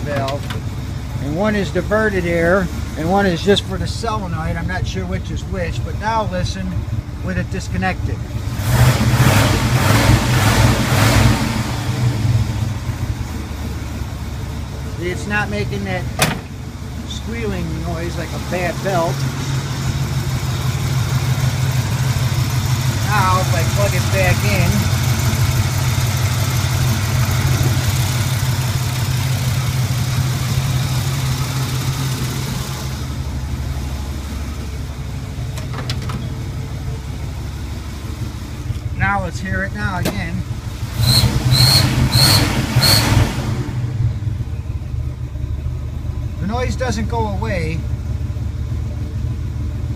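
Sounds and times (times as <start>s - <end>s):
car engine running rough: 0.0s - 49.9s.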